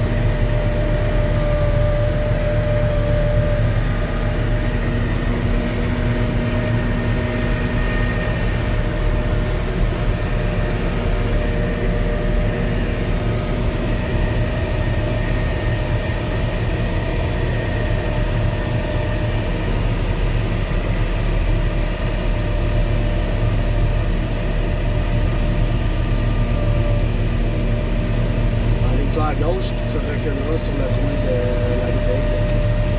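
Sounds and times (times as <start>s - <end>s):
heavy diesel engine drone: 0.0s - 32.9s
snow blower whine: 0.0s - 32.9s.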